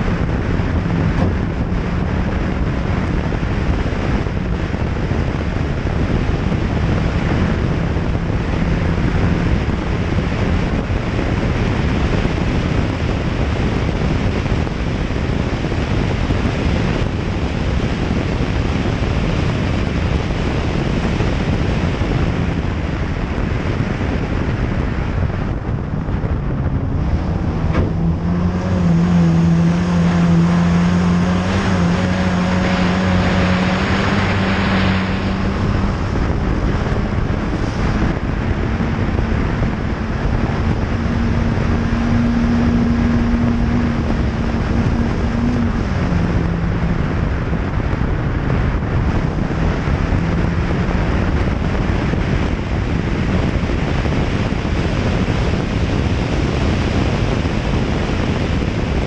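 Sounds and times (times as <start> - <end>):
gravel road noise: 0.0 - 59.0
rally car engine running hard: 0.0 - 59.0
wind buffeting microphone: 0.0 - 59.0.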